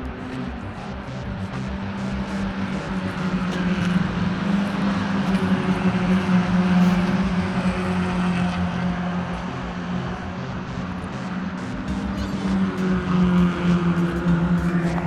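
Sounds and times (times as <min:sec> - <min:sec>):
race car engine high revs: 0:00.0 - 0:15.0.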